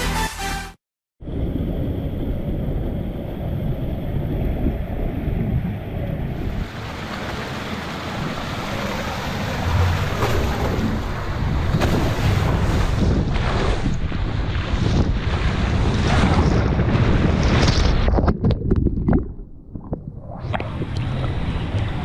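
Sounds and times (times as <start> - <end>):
wind buffeting microphone: 1.2 - 6.8, 8.8 - 22.0.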